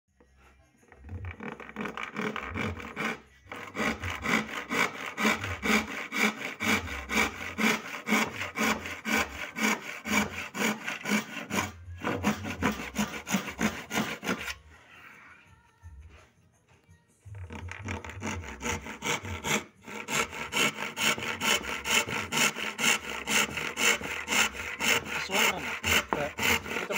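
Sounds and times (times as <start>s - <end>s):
hand saw cutting wood: 1.0s - 14.8s, 17.4s - 26.9s.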